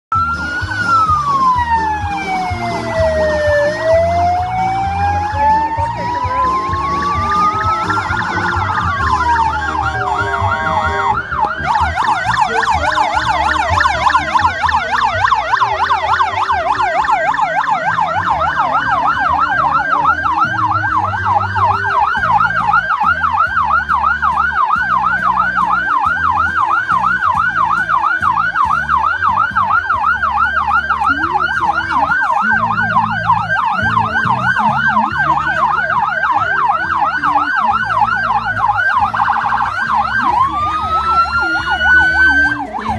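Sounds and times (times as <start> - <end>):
electronic siren wailing and yelping: 0.1 - 42.9.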